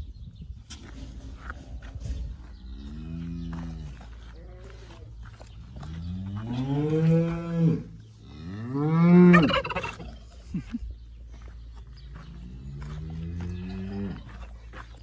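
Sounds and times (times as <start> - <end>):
farm animal calling: 0.7 - 15.0.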